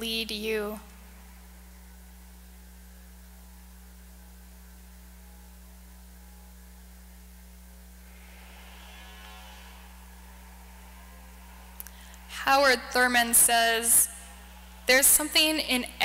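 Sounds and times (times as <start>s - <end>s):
low electrical mains hum: 0.0s - 16.0s.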